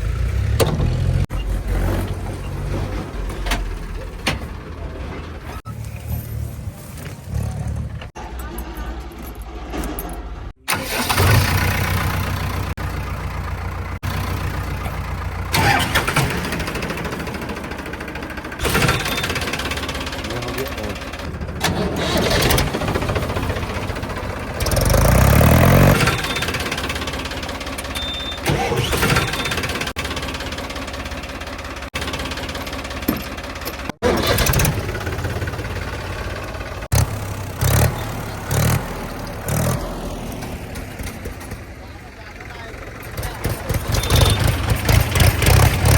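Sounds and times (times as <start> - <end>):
diesel engine of heavy machinery: 0.0 - 45.9.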